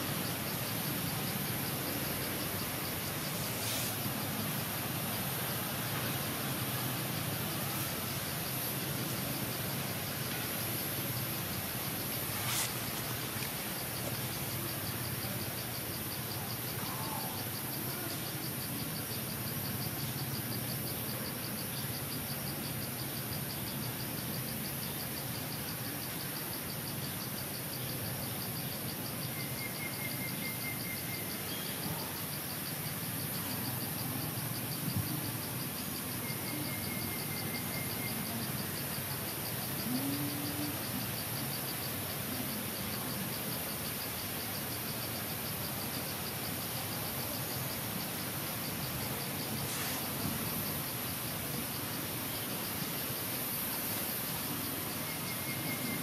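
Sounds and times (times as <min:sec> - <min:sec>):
high insect trills: 0:00.0 - 0:56.0
insects buzzing in chorus: 0:00.0 - 0:56.0.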